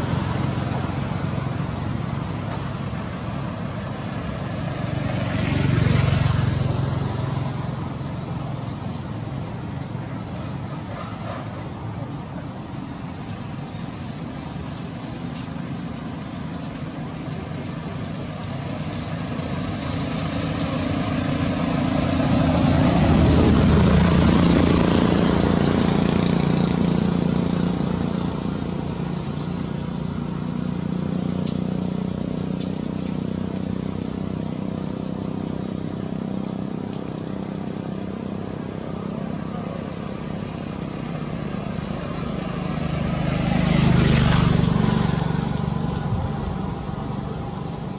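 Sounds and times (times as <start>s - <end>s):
low rumble of traffic: 0.0s - 47.9s
vehicle passing: 0.0s - 47.9s.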